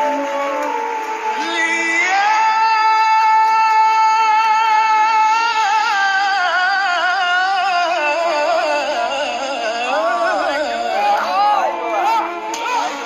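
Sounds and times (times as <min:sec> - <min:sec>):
man singing with vibrato: 0:00.0 - 0:13.0.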